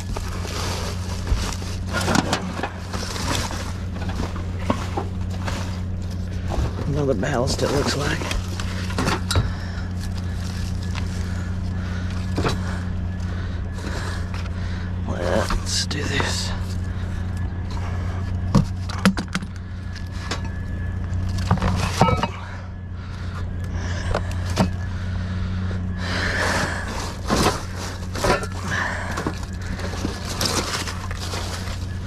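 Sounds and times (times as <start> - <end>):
metal junk clanking: 0.0 - 14.6, 15.3 - 24.9, 26.3 - 32.0
steady low hum: 0.0 - 32.0.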